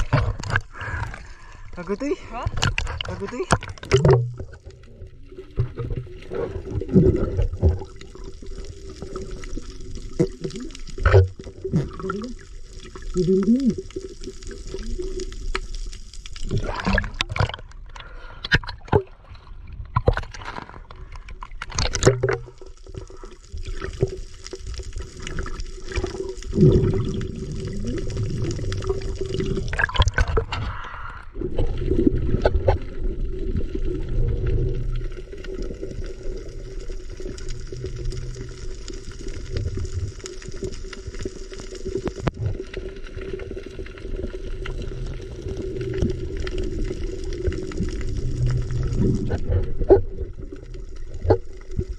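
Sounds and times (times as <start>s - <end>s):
water gurgling and sloshing: 0.0s - 51.9s.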